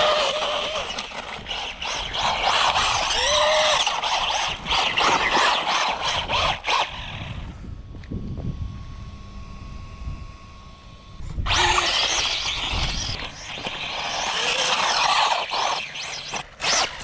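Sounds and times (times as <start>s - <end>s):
rc car motor whining: 0.0s - 7.7s, 10.5s - 17.0s
gritty tyre and ground noise: 0.0s - 9.0s, 11.2s - 17.0s.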